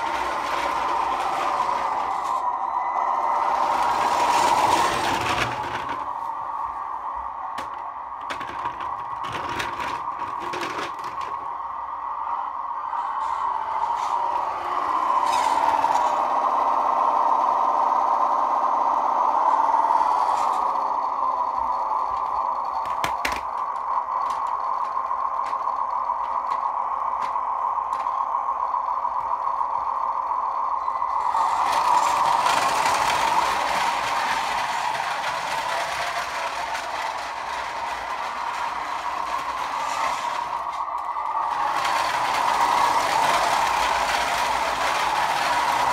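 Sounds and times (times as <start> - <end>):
toy tractor motor whine: 0.0 - 45.9.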